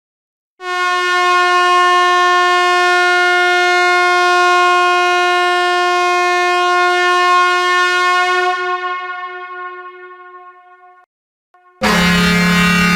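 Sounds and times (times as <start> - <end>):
truck horn blast: 0.6 - 12.9.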